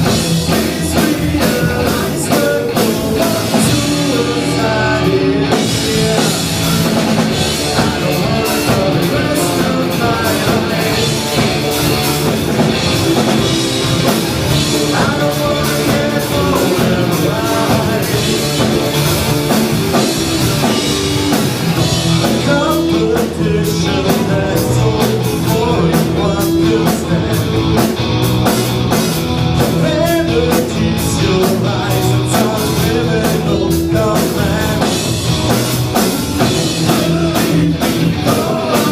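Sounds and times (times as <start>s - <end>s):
person singing: 0.0s - 27.8s, 29.5s - 35.6s, 36.4s - 38.9s
bass guitar: 0.0s - 38.9s
distorted electric guitar: 0.0s - 38.9s
drum kit: 0.0s - 38.9s.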